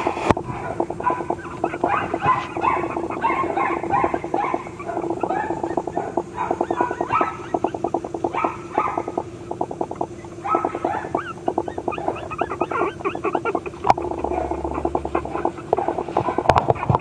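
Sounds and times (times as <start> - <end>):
puppies whimpering: 0.3 - 17.0.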